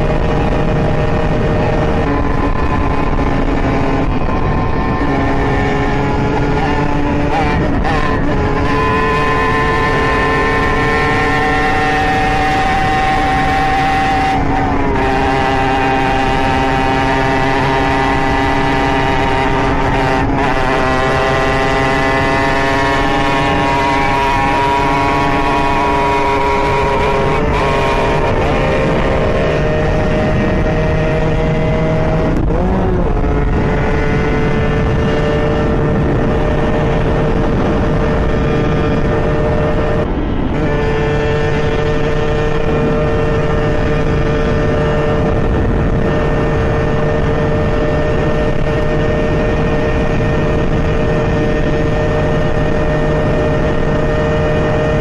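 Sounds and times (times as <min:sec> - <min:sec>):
dirt bike engine at high revs: 0:00.0 - 0:55.0.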